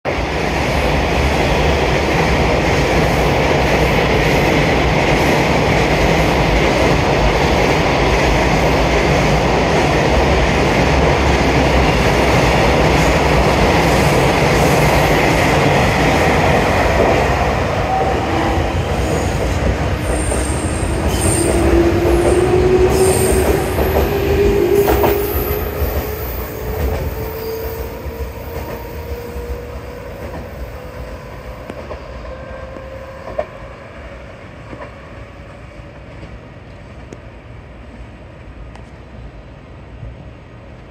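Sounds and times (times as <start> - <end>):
rising train whine: 0.0 - 40.9
train wheels rumbling on rail: 0.1 - 40.9.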